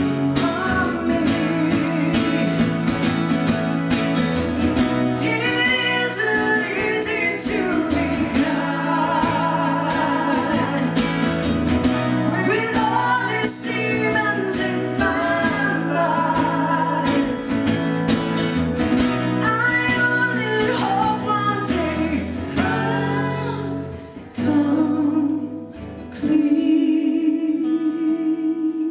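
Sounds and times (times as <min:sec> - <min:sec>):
woman singing: 0:00.0 - 0:02.9, 0:05.2 - 0:11.3, 0:11.9 - 0:18.1, 0:19.2 - 0:28.9
strummed acoustic guitars: 0:00.0 - 0:28.9.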